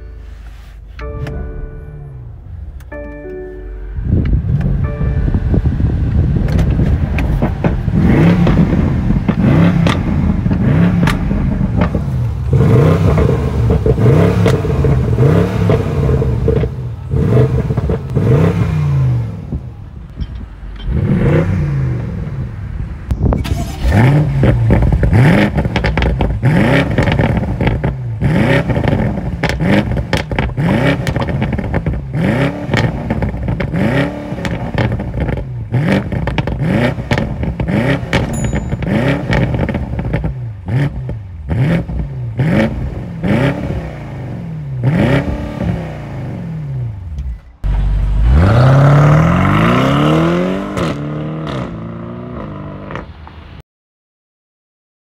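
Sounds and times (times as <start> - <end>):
car engine revving: 4.1 - 20.0, 20.7 - 53.1
exhaust crackles: 4.1 - 53.4.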